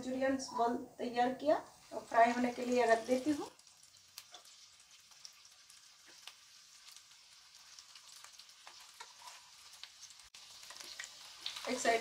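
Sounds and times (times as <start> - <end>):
frying in hot oil: 0.0 - 12.0.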